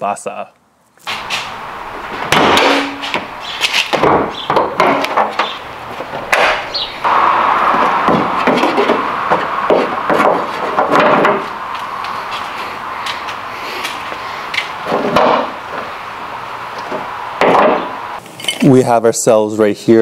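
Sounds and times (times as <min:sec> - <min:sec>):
steady noise: 0:01.0 - 0:18.6.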